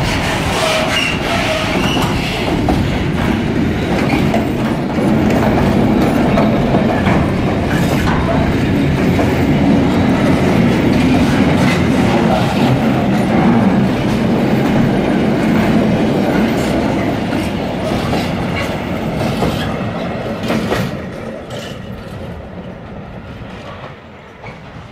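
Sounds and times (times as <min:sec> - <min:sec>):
freight train wheels rumbling: 0:00.0 - 0:24.9.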